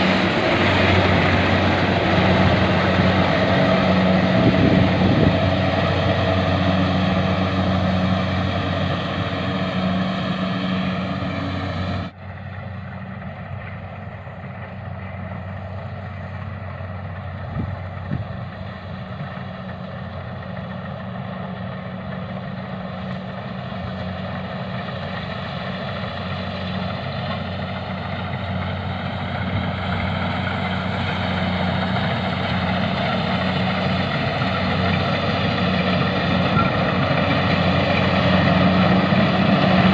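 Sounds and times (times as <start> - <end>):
harvesting machine engine running: 0.0 - 39.9.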